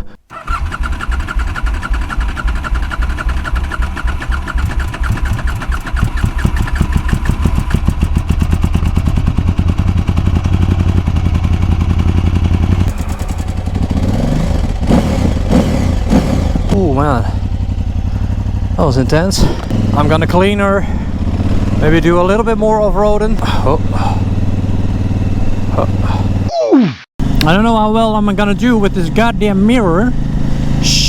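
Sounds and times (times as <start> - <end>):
motorcycle engine revving under load: 0.3 - 26.5, 27.2 - 31.0.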